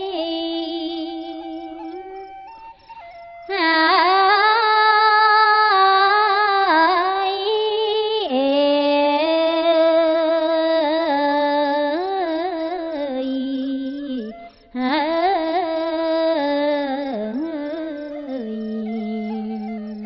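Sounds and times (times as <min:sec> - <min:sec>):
woman chanting verse: 0:00.0 - 0:02.3, 0:03.5 - 0:20.0.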